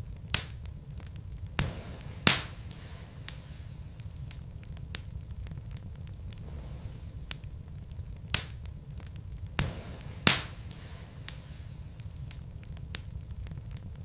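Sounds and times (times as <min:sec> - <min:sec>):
flames rumbling: 0:00.0 - 0:14.0
logs crackling and popping: 0:00.0 - 0:14.0.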